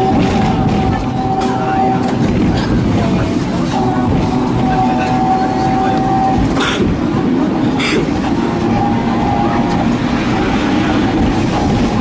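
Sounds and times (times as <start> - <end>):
tram wheels rumbling with hum: 0.0 - 12.0.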